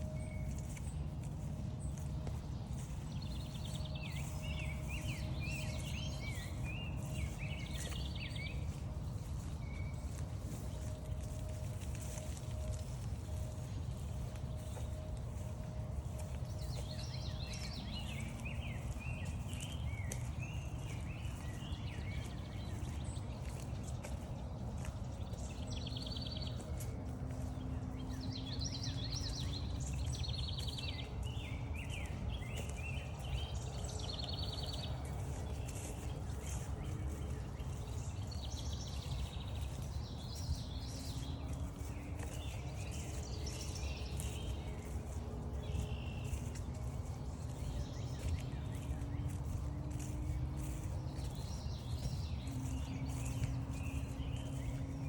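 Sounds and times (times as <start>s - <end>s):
footsteps walking: 0.0s - 55.0s
steady low rumble: 0.0s - 55.0s
wild birds singing: 0.0s - 55.0s.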